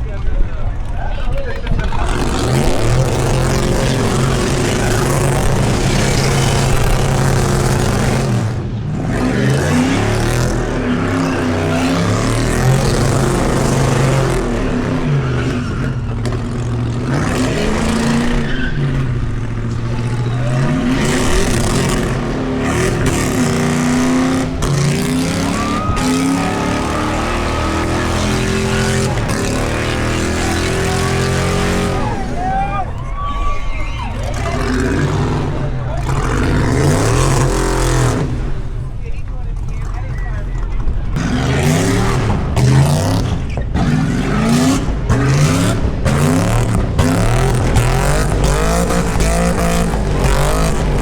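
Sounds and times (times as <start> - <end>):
car engine revving: 0.0 - 51.0
spinning tyre squealing: 1.8 - 38.8, 39.6 - 51.0.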